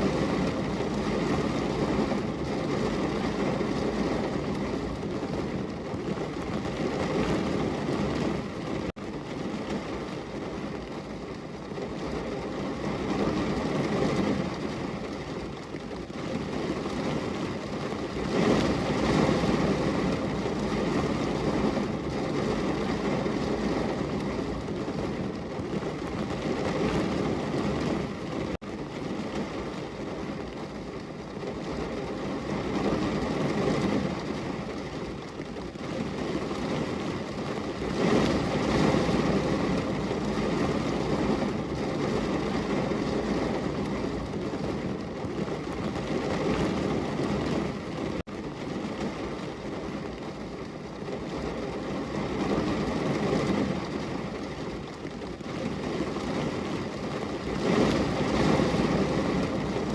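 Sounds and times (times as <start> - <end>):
heavy rain on a window: 0.0 - 59.9.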